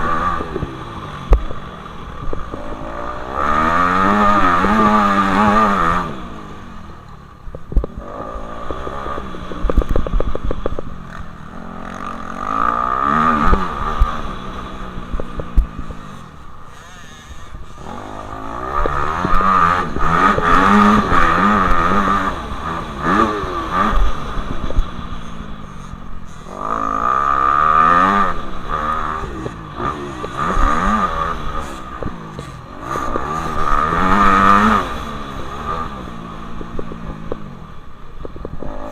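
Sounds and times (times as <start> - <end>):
dirt bikes revving past: 0.0 - 6.9, 7.9 - 37.4.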